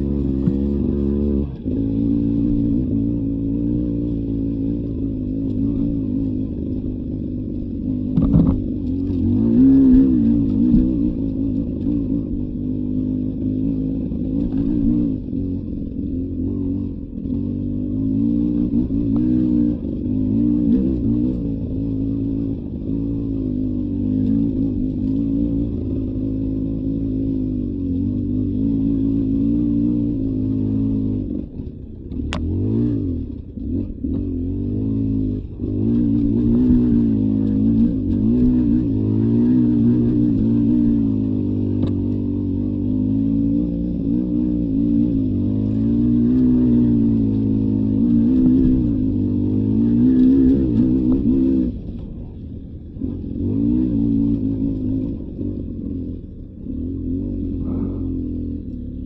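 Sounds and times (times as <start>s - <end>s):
dirt bike engine revving: 0.0s - 52.3s, 52.9s - 59.0s.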